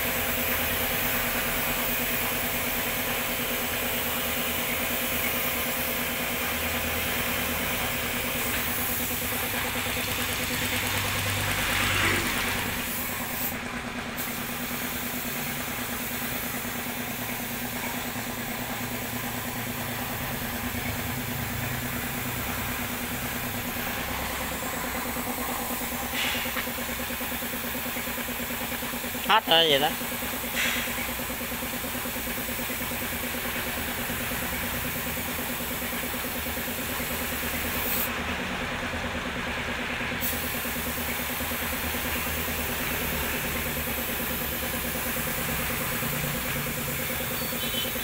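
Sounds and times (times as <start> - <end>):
spray paint hiss: 0.0 - 38.2, 40.2 - 48.0.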